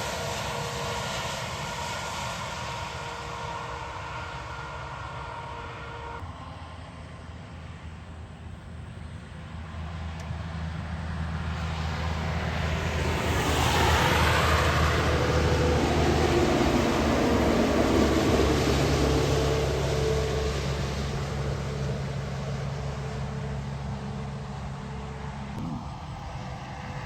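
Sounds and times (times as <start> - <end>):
tyres hissing on wet road: 0.0 - 6.2, 9.9 - 27.0
diesel truck engine droning: 0.0 - 27.0.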